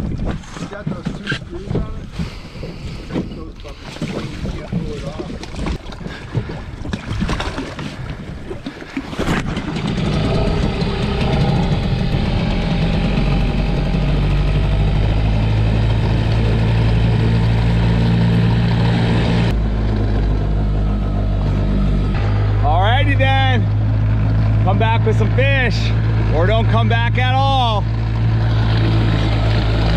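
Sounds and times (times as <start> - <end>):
outboard motor running: 0.0 - 29.9.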